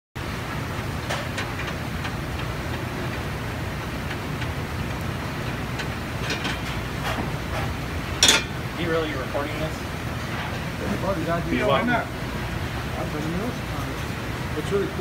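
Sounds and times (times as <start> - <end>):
gas burners roaring: 0.2 - 15.0.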